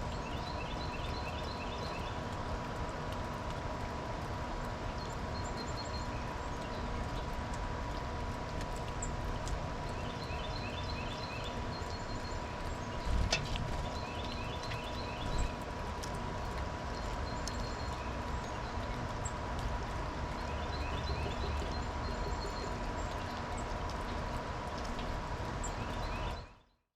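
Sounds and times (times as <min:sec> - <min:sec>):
small birds chirping: 0:00.0 - 0:03.3, 0:04.7 - 0:26.8.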